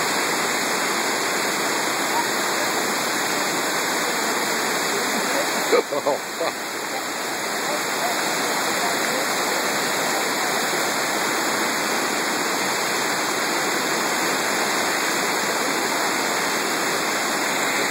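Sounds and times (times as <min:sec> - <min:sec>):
river rapids rushing: 0:00.0 - 0:17.9.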